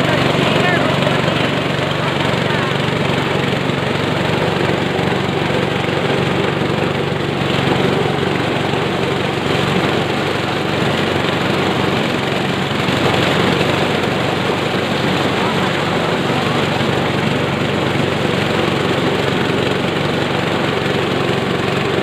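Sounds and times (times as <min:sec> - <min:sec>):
corn sheller clattering: 0:00.0 - 0:22.0
low engine hum: 0:00.0 - 0:22.0.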